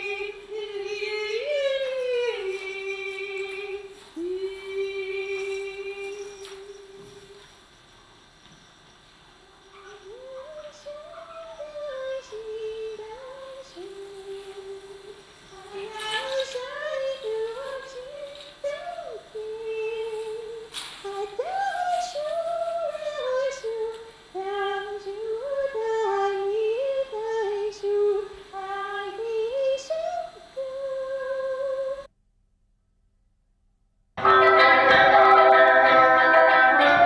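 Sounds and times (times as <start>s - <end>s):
woman singing unaccompanied: 0.0s - 7.6s, 9.9s - 32.1s.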